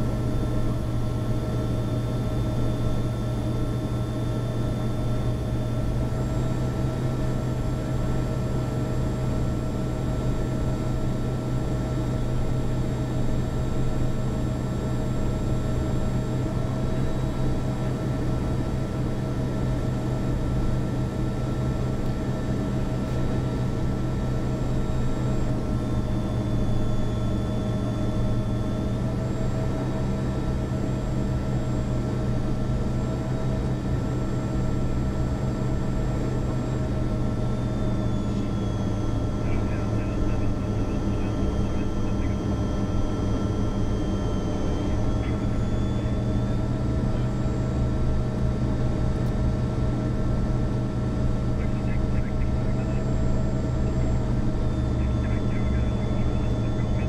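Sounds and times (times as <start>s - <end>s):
jet engines humming: 0.0s - 57.0s.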